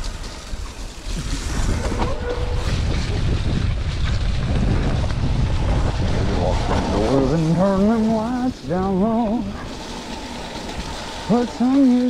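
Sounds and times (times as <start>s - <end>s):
bike rattling over bumps: 0.0s - 12.0s
bike tyre noise on dirt: 0.0s - 12.0s
wind buffeting microphone: 0.0s - 12.0s.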